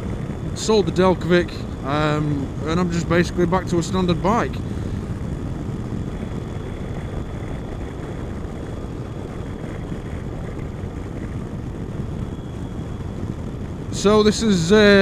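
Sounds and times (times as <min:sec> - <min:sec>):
wind and motorcycle engine rumble: 0:00.0 - 0:15.0.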